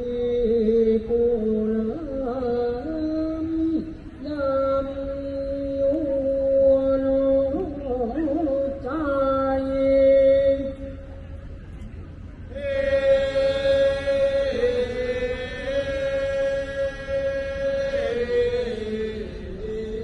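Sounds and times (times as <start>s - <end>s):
chant in long wavering notes: 0.0s - 11.2s, 12.4s - 20.0s.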